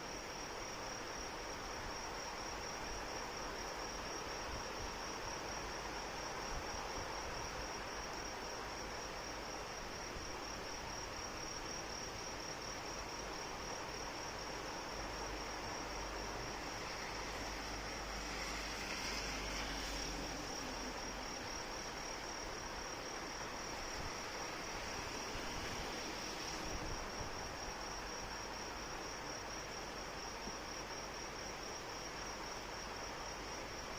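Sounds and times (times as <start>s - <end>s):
crickets trilling: 0.0s - 33.9s
steady rain falling: 0.1s - 33.9s.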